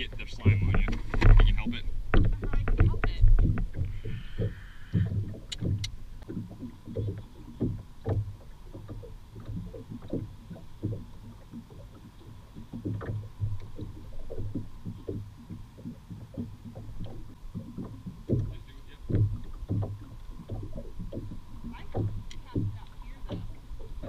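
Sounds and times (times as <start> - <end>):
water slapping against hull: 0.0 - 24.0.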